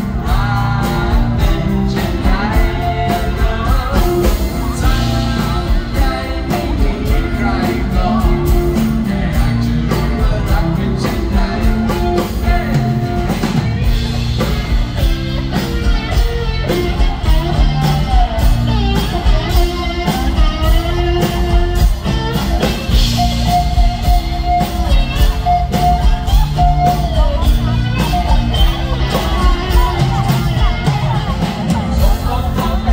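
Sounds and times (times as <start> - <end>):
lead electric guitar: 0.0 - 32.9
rock band playing: 0.0 - 32.9.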